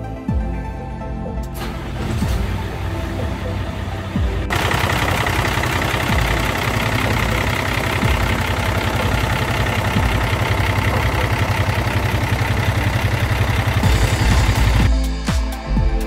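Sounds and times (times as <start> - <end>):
diesel truck engine idling: 1.6 - 14.9.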